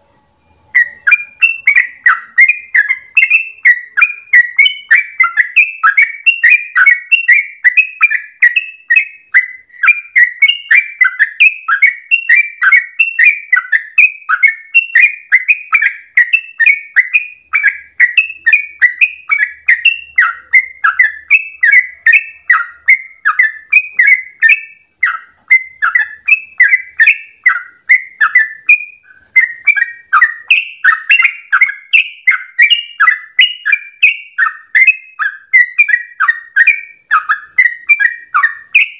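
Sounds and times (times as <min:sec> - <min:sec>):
bird singing bubbly chirps: 0:00.0 - 0:38.9.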